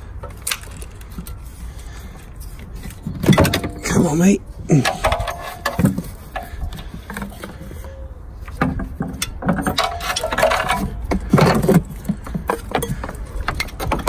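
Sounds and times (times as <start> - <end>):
rubbing and scraping: 0.3 - 14.0.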